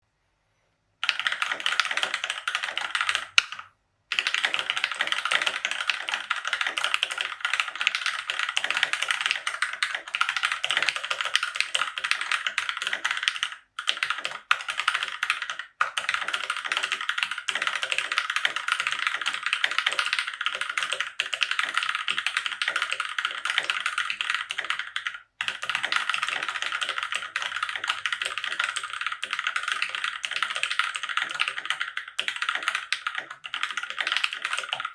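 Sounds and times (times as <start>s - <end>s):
mechanical keyboard typing: 1.0s - 34.9s.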